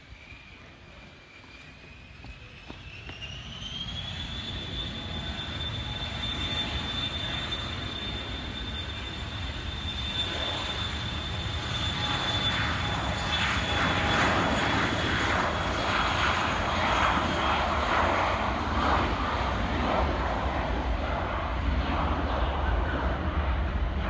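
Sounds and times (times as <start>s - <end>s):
jet engines roaring: 0.0s - 24.0s
thin high engine whine: 0.0s - 24.0s.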